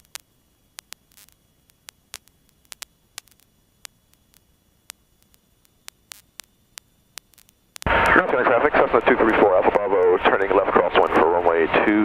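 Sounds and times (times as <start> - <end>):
faint hiss: 0.0 - 12.0
radio static clicks and crackles: 0.0 - 12.0.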